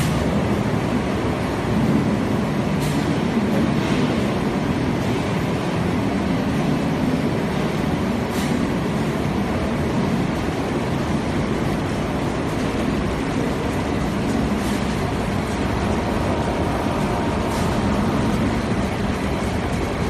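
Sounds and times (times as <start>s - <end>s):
conveyors running: 0.0s - 20.0s.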